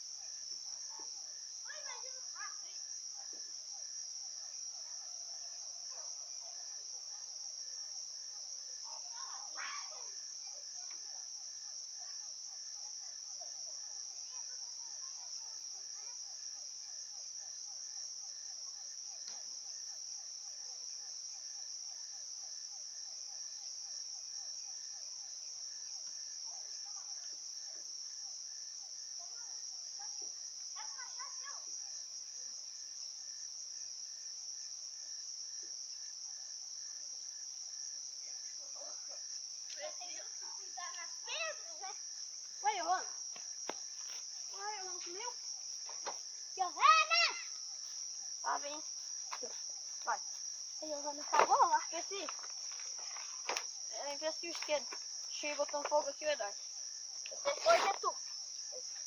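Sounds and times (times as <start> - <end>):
crickets trilling: 0.0 - 59.0
low rapid pulsing insect call: 0.0 - 59.0.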